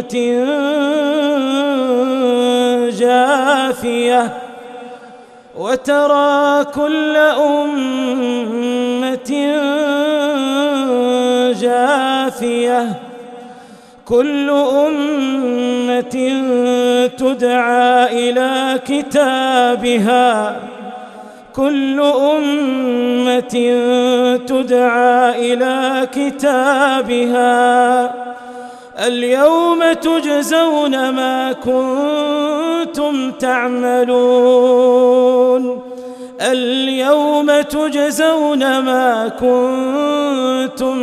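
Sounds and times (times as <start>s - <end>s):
man chanting melodically: 0.0s - 41.0s.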